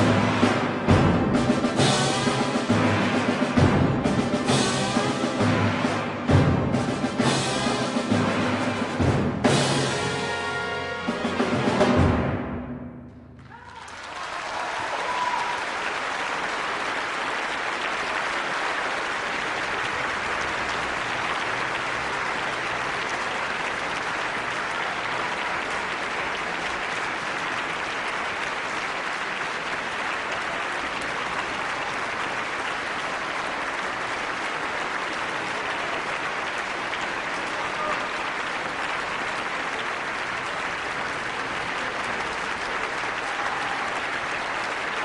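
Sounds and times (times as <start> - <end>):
audience applauding: 0.0 - 12.0, 13.4 - 45.0.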